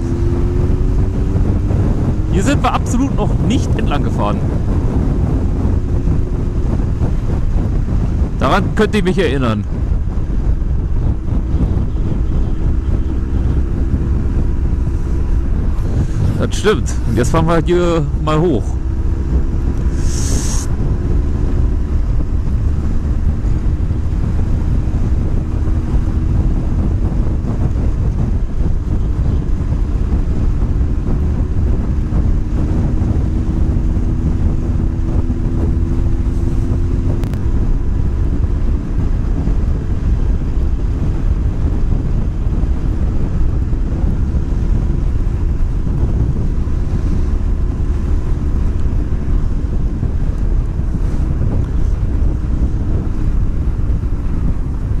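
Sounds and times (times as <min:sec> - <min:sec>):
motorcycle engine hum: 0:00.0 - 0:55.0
wind buffeting microphone: 0:00.0 - 0:55.0.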